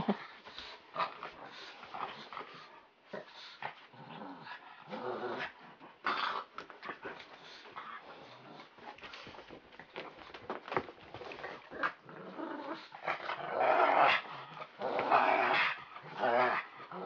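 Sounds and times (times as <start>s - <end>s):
dog growling: 0.0s - 9.0s, 11.2s - 17.0s.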